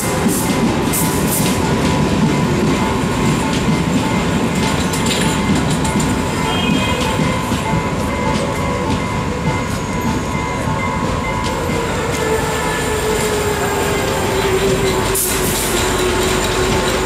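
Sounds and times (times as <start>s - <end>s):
train rumbling to a stop: 0.0s - 17.0s.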